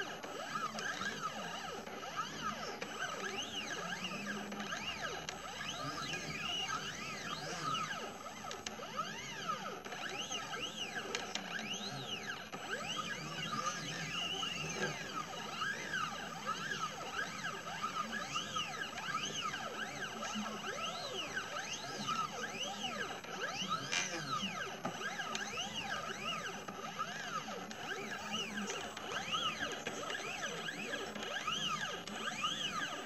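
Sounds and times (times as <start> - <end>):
stepper motors whining: 0.0 - 33.0.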